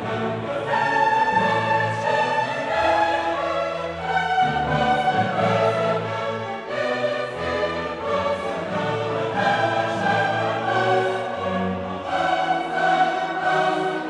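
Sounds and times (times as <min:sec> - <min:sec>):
choir singing held notes: 0:00.0 - 0:14.0
orchestral music: 0:00.0 - 0:14.0.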